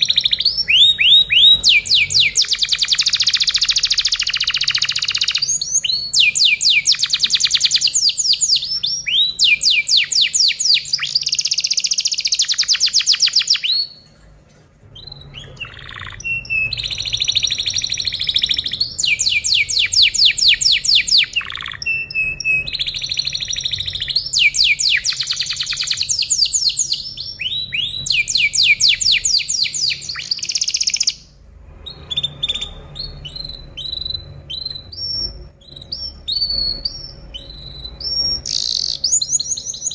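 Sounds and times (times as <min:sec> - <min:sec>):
canary singing trills: 0:00.0 - 0:14.0, 0:14.9 - 0:39.9.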